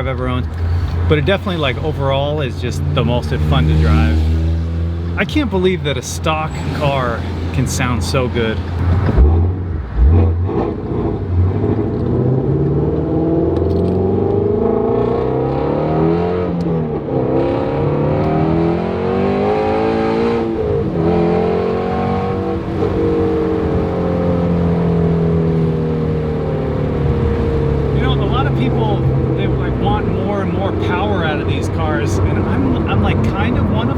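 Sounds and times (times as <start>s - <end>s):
car engine revving through gears: 0.5s - 33.9s.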